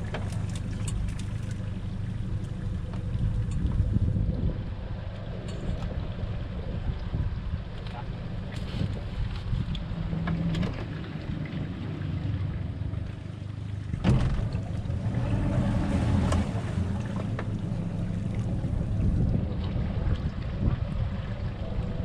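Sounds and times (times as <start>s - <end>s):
outboard motor humming: 0.0s - 22.0s
water noise: 0.0s - 22.0s
wind: 0.0s - 22.0s.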